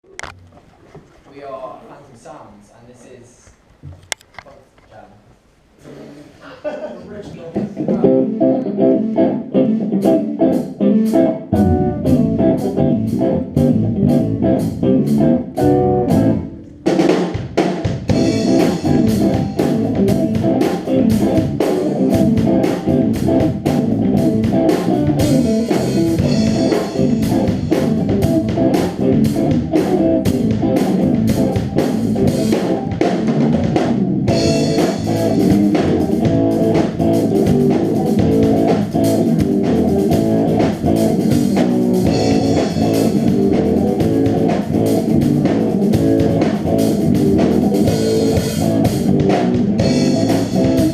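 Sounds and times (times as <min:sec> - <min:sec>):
bass guitar: 0:00.0 - 0:01.2, 0:07.3 - 0:50.9
drum kit beat: 0:07.2 - 0:50.9
electric guitar: 0:07.6 - 0:50.9.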